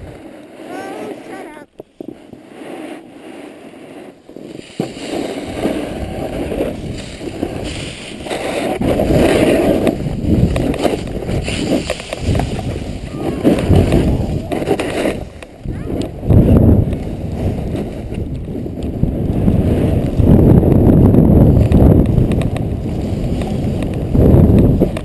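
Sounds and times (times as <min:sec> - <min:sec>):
wind rushing over microphone: 0:00.0 - 0:01.6, 0:04.5 - 0:25.0
snowboard scraping over snow: 0:00.0 - 0:25.0.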